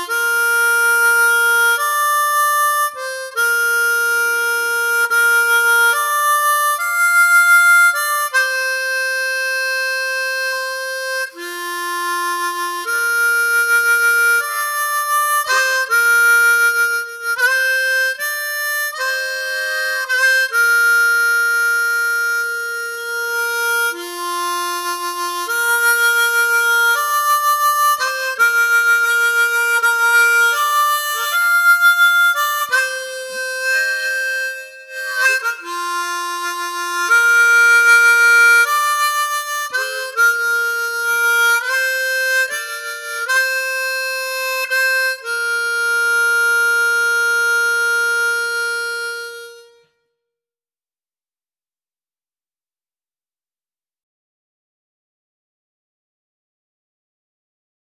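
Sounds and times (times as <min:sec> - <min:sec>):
slow instrumental melody: 0:00.0 - 0:50.0.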